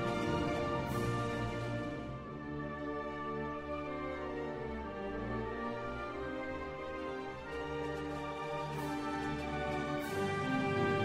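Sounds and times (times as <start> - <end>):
orchestral strings sustained notes: 0.0 - 11.0.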